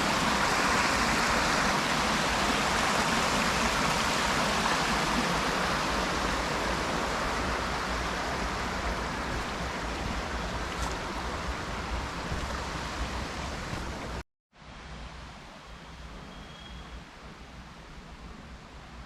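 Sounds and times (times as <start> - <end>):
creek water rushing over rocks: 0.0 - 16.2.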